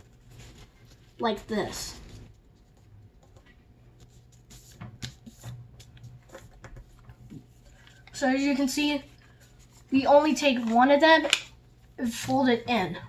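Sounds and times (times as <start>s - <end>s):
paper rustling and crinkling: 0.0s - 3.4s, 4.0s - 8.2s, 9.0s - 12.6s.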